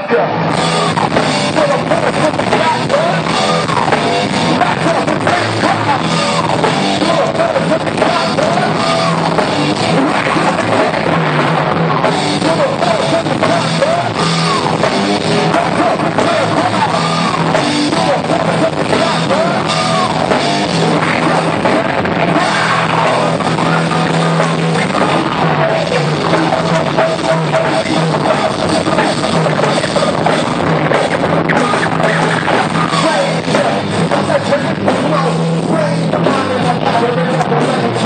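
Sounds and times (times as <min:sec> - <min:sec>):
drum kit: 0:00.0 - 0:38.0
rock band playing: 0:00.0 - 0:38.0.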